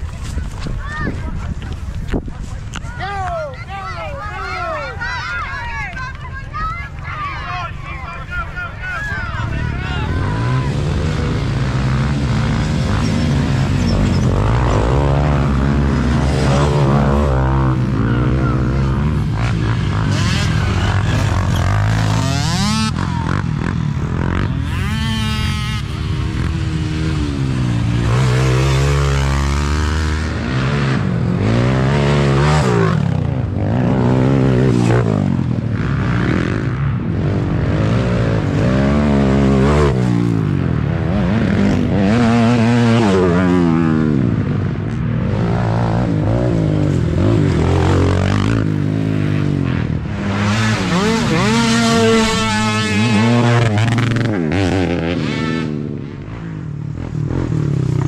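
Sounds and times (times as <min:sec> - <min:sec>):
quad engines revving: 0:09.2 - 0:58.0.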